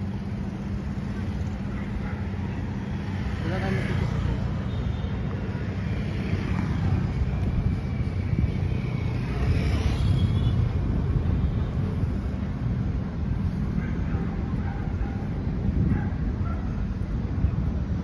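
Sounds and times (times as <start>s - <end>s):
rumble of passing vehicles: 0.0s - 18.0s.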